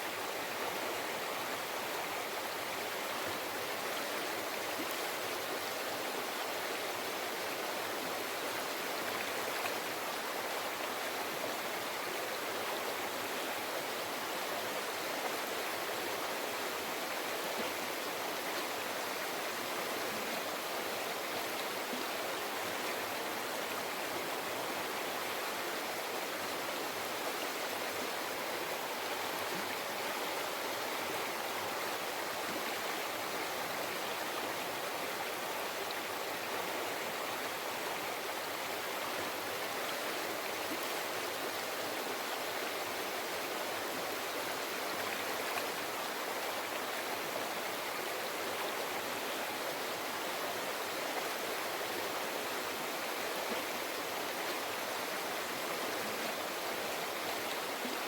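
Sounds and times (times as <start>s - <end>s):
forest river flowing: 0.0s - 58.0s.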